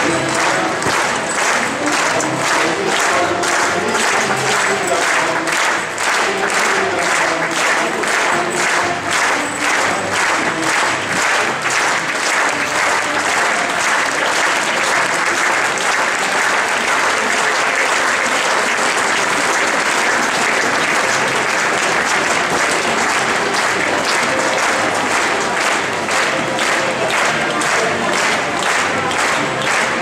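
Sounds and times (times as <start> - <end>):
large audience applauding: 0.0 - 30.0.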